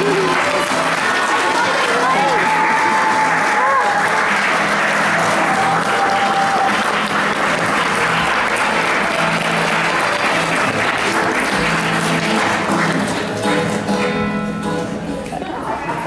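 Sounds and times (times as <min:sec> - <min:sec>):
audience applauding: 0:00.0 - 0:16.0
music playing: 0:00.0 - 0:16.0.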